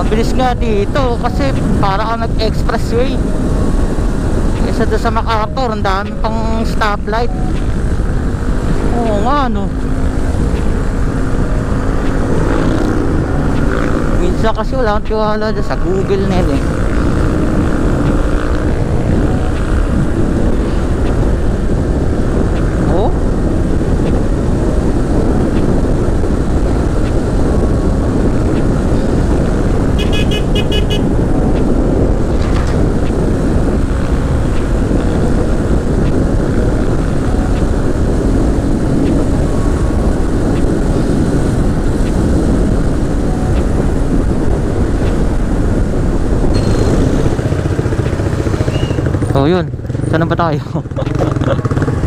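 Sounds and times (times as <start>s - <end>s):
motorcycle engine cruising: 0.0s - 52.0s.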